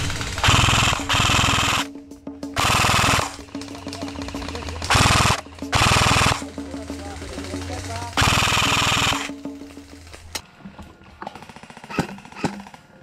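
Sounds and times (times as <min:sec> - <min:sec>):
airsoft guns firing bursts: 0:00.0 - 0:01.9, 0:02.6 - 0:09.4, 0:11.3 - 0:13.0.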